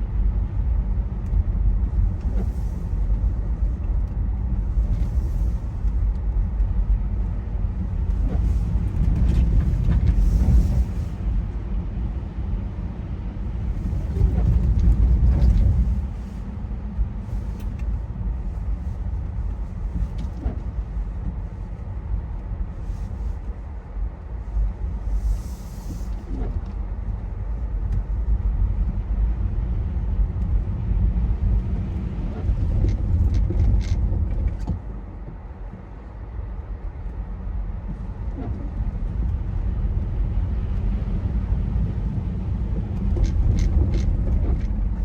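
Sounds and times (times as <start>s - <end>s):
moving car rumble: 0.0s - 45.0s.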